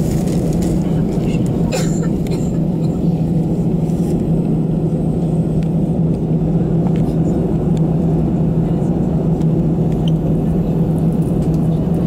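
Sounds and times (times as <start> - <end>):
aircraft cabin engine hum: 0.0 - 12.0.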